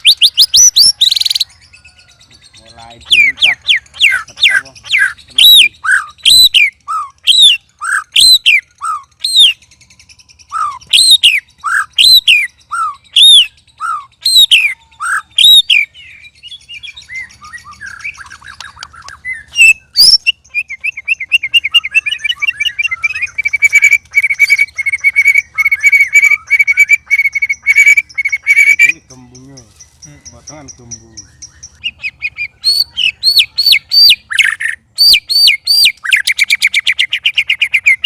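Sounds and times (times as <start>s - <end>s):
bird singing whistles and trills: 0.0s - 38.0s.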